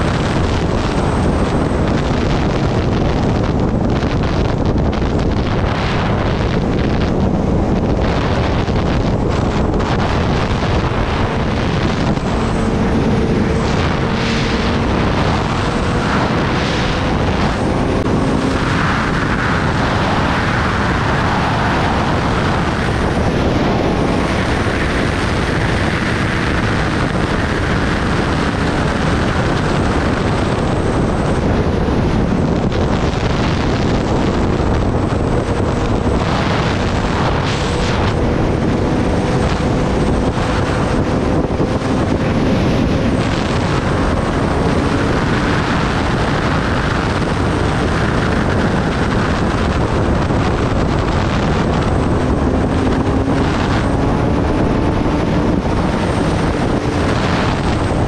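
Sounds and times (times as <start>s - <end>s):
motorcycle engine: 0.0s - 58.0s
wind rushing over microphone: 0.0s - 58.0s.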